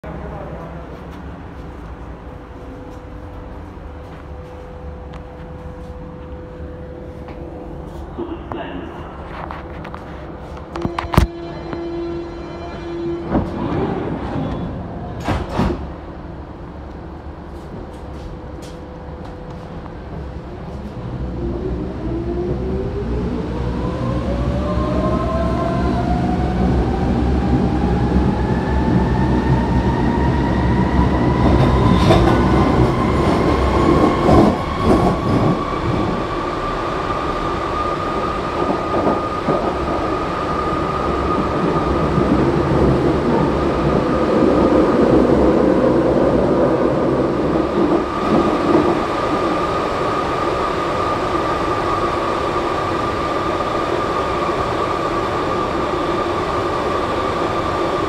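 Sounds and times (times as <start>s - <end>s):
train wheel rumble: 0.0s - 58.0s.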